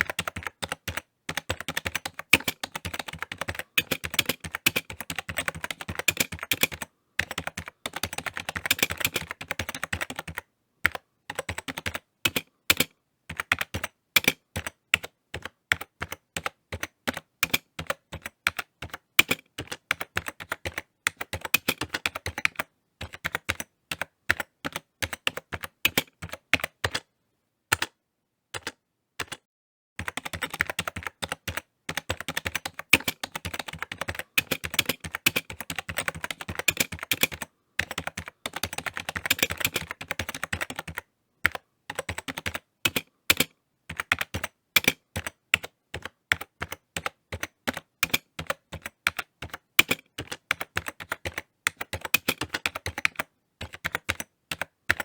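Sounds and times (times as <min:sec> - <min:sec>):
typing on computer keyboard: 0:00.0 - 0:27.1, 0:27.7 - 0:28.0, 0:28.6 - 0:55.0.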